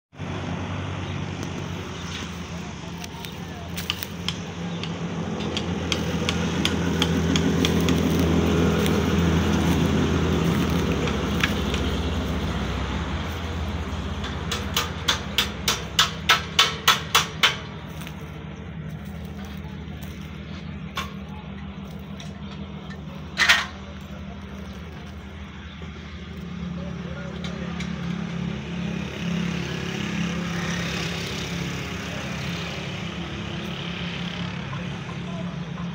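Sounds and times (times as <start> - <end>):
engine running: 0.1 - 35.9.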